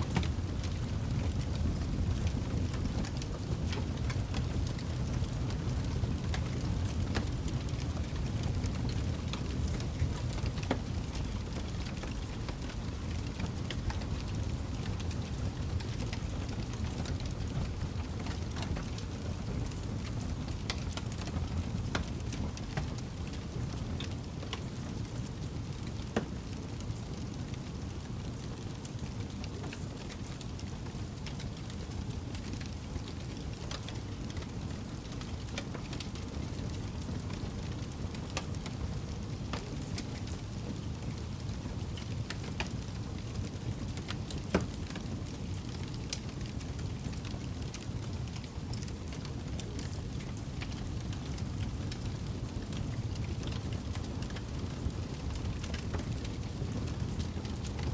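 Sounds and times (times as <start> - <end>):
campfire crackling: 0.1 - 57.9.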